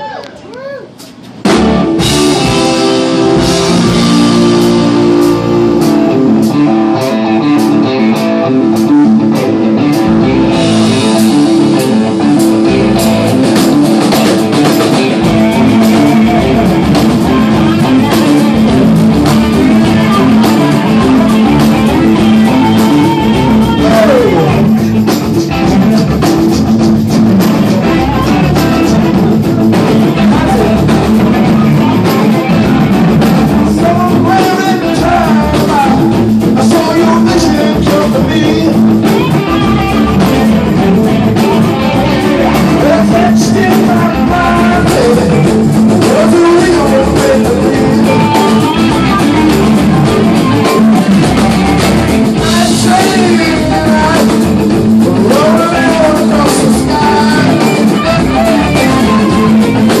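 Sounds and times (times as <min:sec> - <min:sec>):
live rock band playing: 0:00.0 - 1:00.0
person singing: 0:02.0 - 0:26.2, 0:27.5 - 1:00.0.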